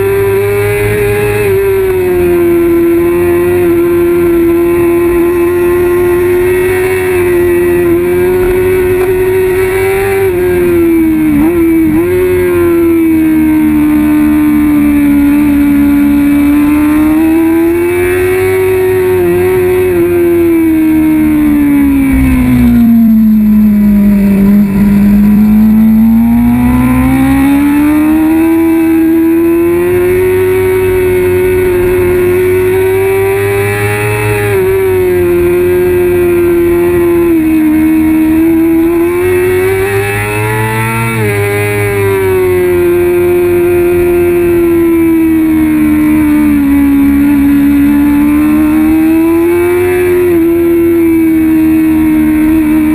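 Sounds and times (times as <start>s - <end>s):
motorcycle engine at high revs: 0.0s - 52.9s.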